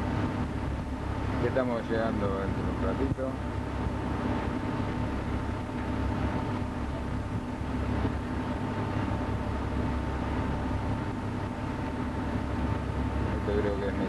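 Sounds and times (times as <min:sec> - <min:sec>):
faint steady whine: 0:00.0 - 0:14.0
ship engines rumbling: 0:00.0 - 0:14.0.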